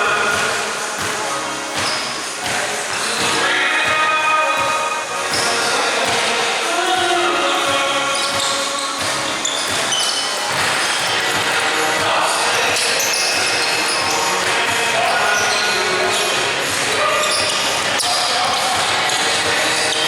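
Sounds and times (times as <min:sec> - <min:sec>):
basketball bouncing on court: 0:00.0 - 0:20.0
players' voices echoing: 0:00.0 - 0:20.0.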